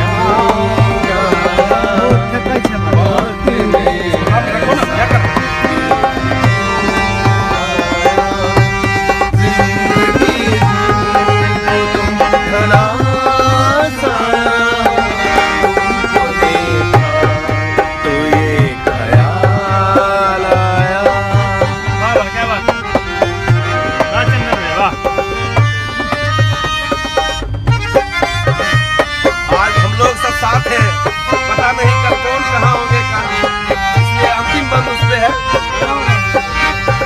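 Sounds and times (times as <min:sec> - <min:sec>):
man singing: 0:00.0 - 0:25.7, 0:28.4 - 0:37.0
hand drum beat: 0:00.0 - 0:37.0
harmonium chords: 0:00.0 - 0:37.0.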